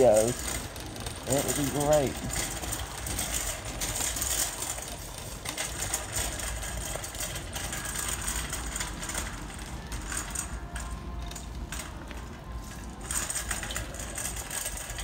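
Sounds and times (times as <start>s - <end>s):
shopping cart wheels rumbling: 0.0s - 15.0s
wire basket rattling: 0.0s - 15.0s.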